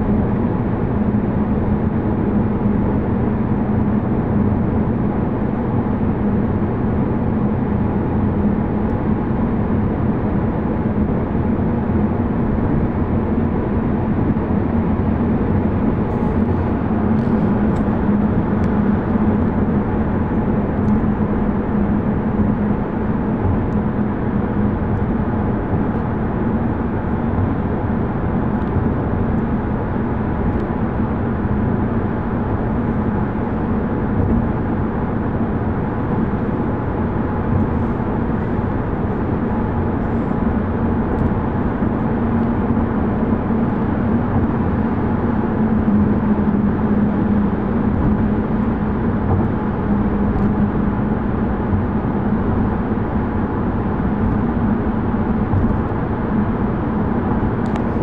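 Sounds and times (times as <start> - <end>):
car driving through tunnel: 0.0 - 58.0.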